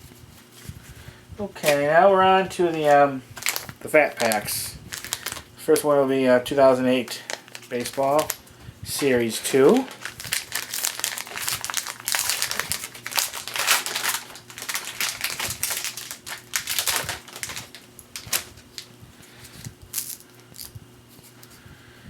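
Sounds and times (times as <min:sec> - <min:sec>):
foil wrapper crinkling and tearing: 0:01.6 - 0:02.0, 0:02.6 - 0:21.4.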